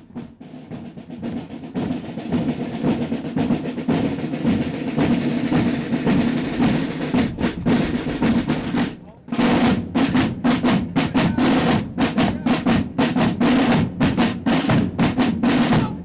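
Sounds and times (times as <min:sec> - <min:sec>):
marching drum corps drumming: 0:00.0 - 0:16.0.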